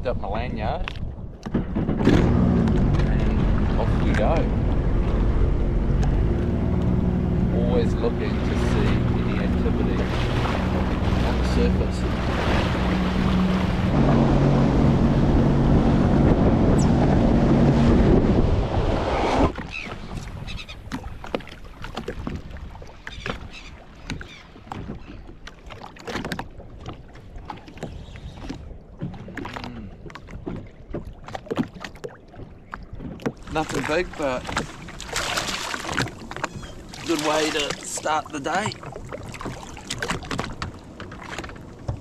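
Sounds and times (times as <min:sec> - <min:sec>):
rushing water and wind: 0:00.0 - 0:42.0
jet ski engine hum: 0:01.4 - 0:42.0.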